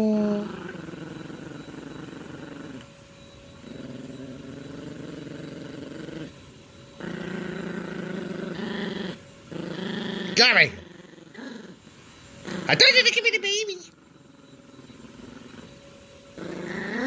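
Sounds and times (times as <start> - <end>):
puppy play-growling: 0.0 - 17.0.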